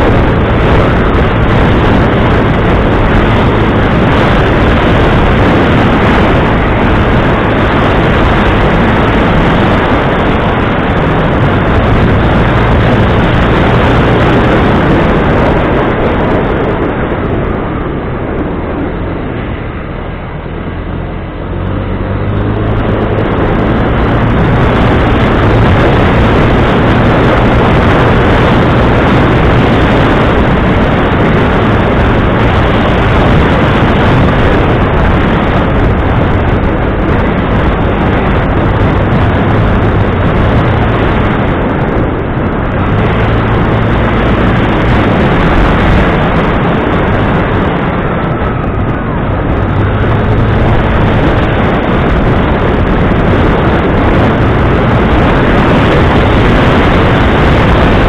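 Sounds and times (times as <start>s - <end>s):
engine droning: 0.0s - 58.0s
loud rushing noise: 0.0s - 58.0s.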